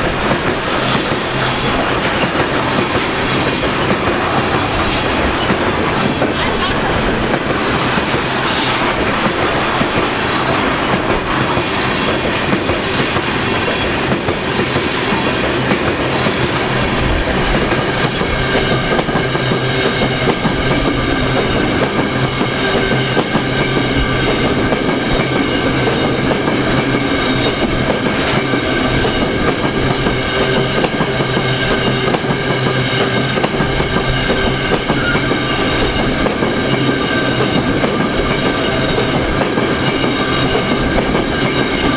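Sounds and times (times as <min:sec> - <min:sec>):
train wheels clattering over rails: 0:00.0 - 0:41.9.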